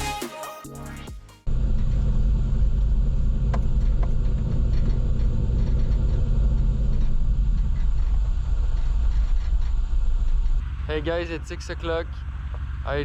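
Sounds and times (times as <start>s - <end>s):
vehicle engine rumbling: 1.4s - 13.0s.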